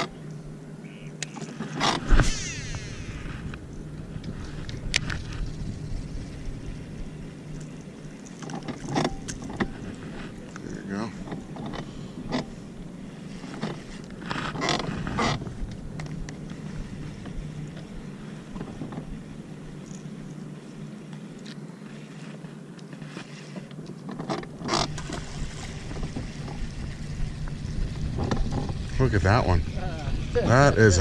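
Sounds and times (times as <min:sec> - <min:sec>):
boat engine hum: 0:00.0 - 0:31.0.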